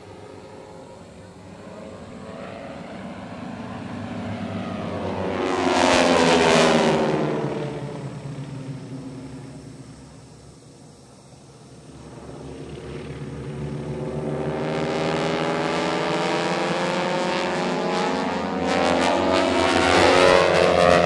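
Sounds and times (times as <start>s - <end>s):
propeller planes flyby drone: 0.0s - 21.0s.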